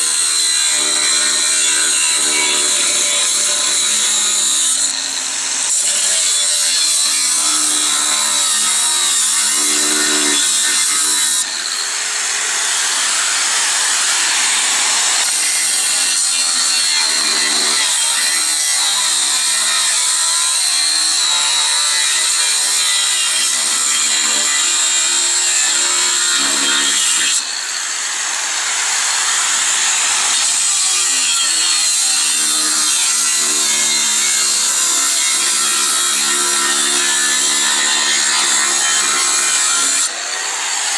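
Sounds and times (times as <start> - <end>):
angle grinder cutting metal: 0.0 - 40.9.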